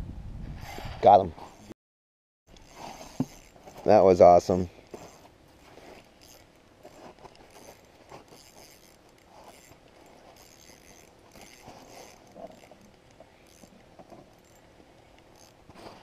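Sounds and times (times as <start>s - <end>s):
handling noise rustles and scrapes: 2.5s - 16.0s.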